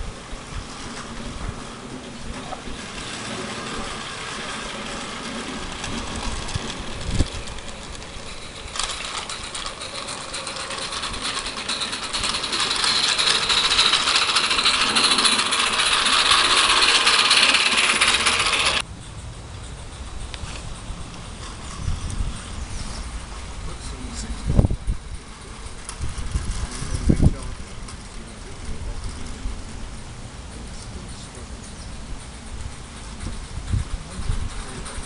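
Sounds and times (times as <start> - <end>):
steam hissing: 0.0 - 35.0.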